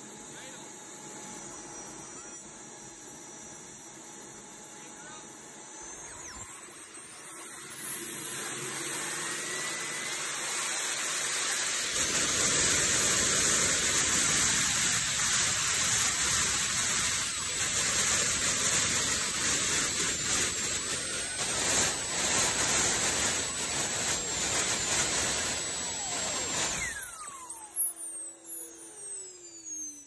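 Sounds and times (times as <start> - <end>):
jet turbine whine and rush: 0.0 - 30.0.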